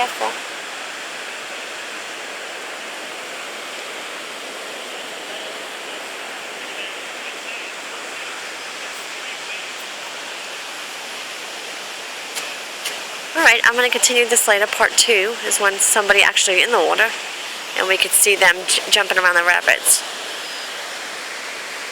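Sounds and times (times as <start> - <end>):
river rapids rushing: 0.0 - 21.9.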